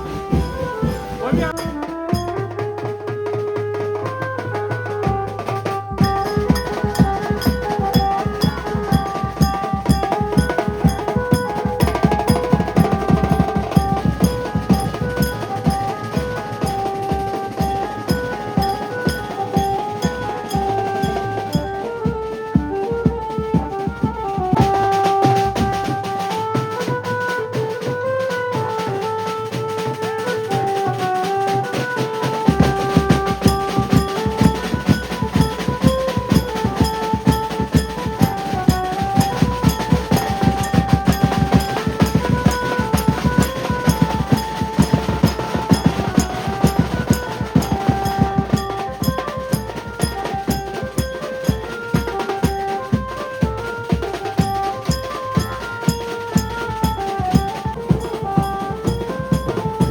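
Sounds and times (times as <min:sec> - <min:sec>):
band playing melody: 0:00.0 - 0:59.9
heavy drum beat: 0:00.0 - 0:59.9.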